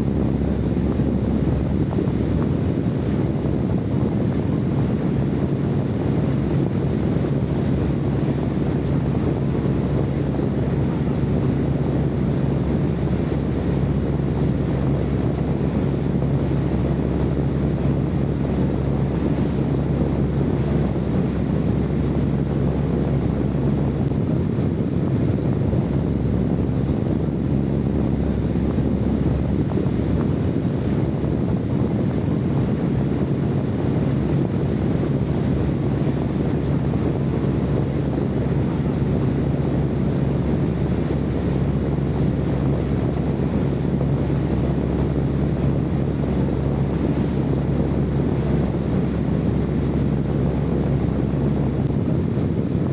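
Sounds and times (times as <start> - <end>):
constant low hum: 0.0 - 52.9
steady white noise rushing: 0.0 - 52.9.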